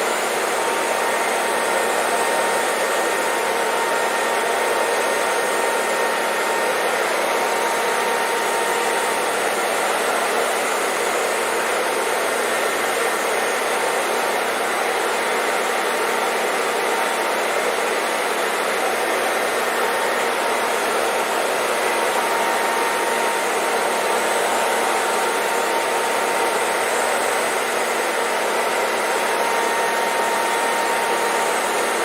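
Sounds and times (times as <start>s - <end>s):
hair dryer blowing: 0.0s - 32.0s.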